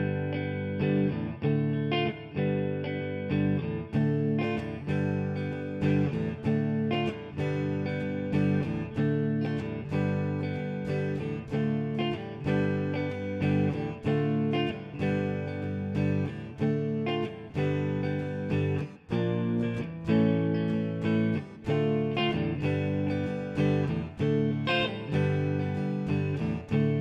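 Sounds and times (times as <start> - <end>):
guitar chords strummed: 0.0 - 27.0.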